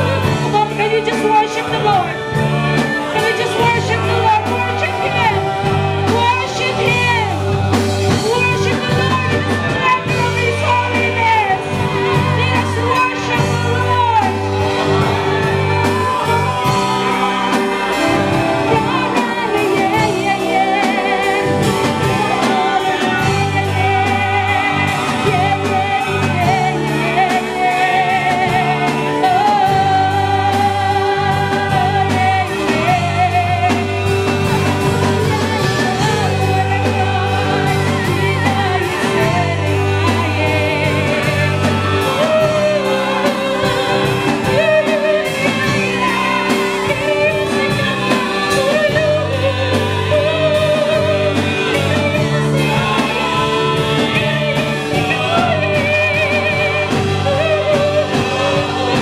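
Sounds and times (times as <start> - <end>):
guitar and band accompaniment: 0.0 - 59.0
worship song singing: 0.0 - 59.0.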